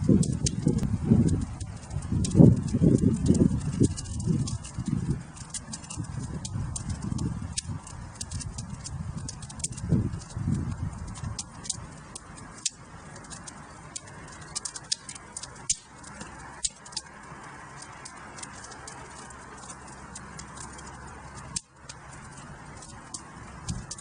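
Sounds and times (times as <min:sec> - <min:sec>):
low rush of burning: 0:00.0 - 0:24.0
wood fire crackling and popping: 0:00.0 - 0:24.0.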